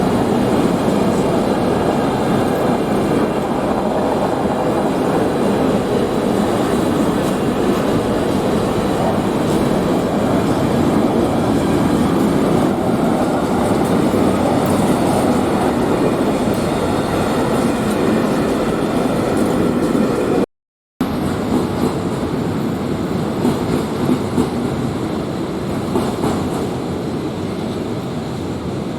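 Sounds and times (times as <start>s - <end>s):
train rumbling over rails: 0.0s - 20.4s, 21.0s - 28.9s.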